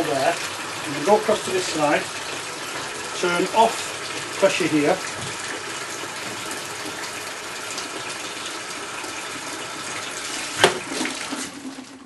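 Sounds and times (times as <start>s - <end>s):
water rushing into a bucket: 0.0s - 12.0s.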